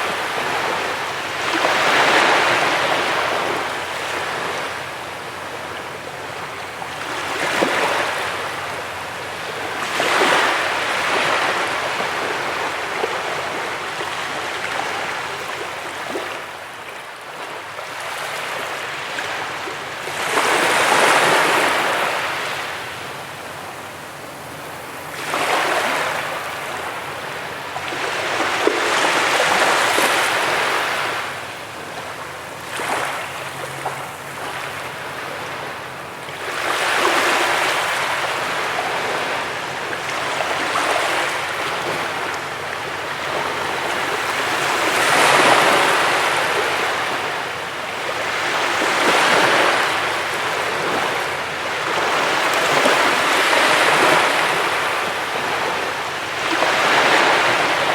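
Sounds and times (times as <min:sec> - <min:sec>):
sea waves breaking on a beach: 0:00.0 - 0:57.9.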